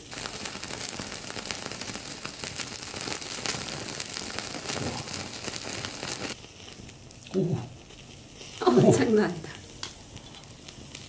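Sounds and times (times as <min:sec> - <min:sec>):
meat sizzling on a grill: 0:00.0 - 0:11.0
sharp crackles of searing meat: 0:00.0 - 0:11.0.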